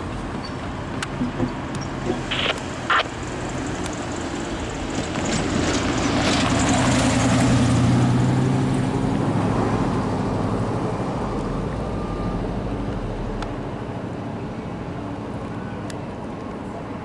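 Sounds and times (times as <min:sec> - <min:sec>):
heavy vehicle engine rumbling: 0:00.0 - 0:17.0.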